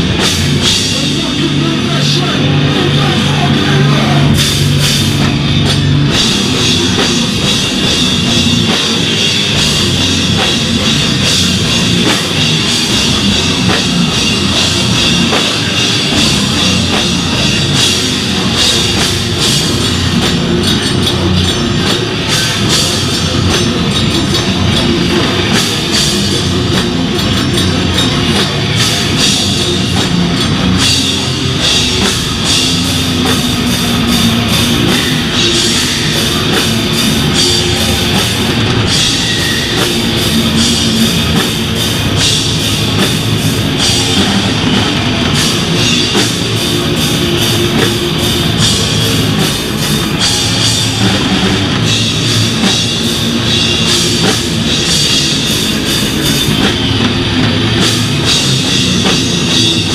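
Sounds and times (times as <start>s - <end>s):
distorted electric guitar: 0.0s - 59.9s
pounding drum kit: 0.0s - 59.9s
crashing cymbals: 3.0s - 59.9s.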